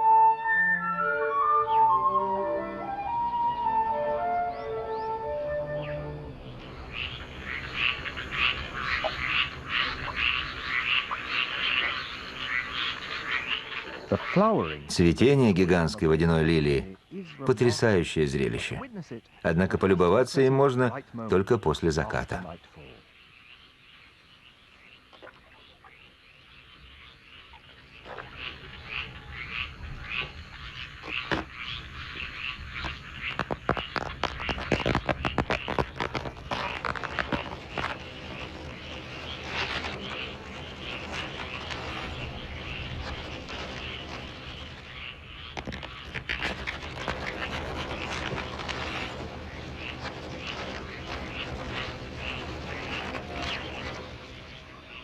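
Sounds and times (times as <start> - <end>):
chorus of frogs calling: 1.2 - 55.0.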